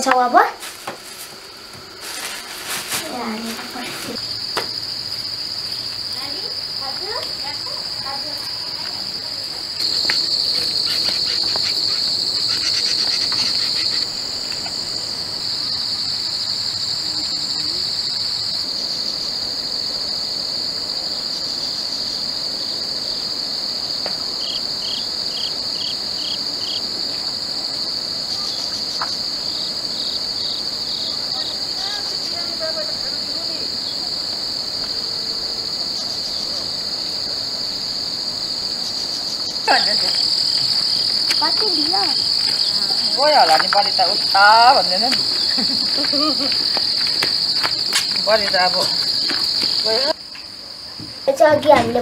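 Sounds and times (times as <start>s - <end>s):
shrilling insects chorus: 0.0s - 52.0s.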